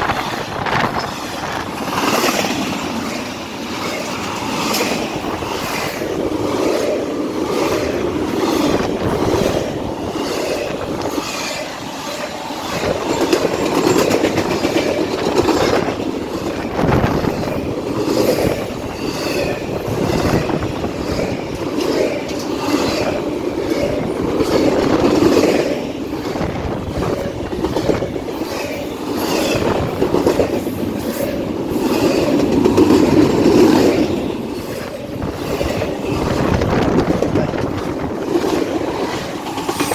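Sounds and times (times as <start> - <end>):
freight train wheels clacking: 0.0 - 39.9.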